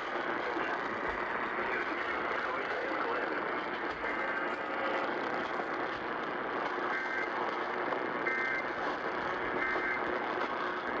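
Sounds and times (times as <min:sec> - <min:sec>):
radio hiss and static: 0:00.0 - 0:11.0.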